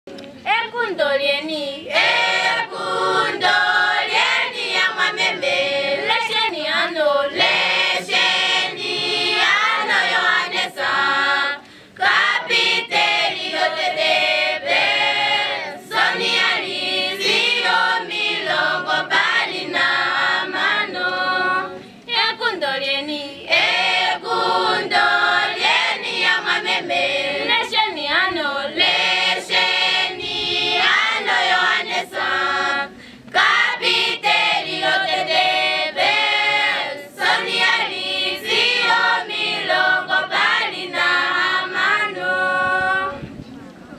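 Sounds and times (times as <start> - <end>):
choir singing unaccompanied: 1.1 - 43.4.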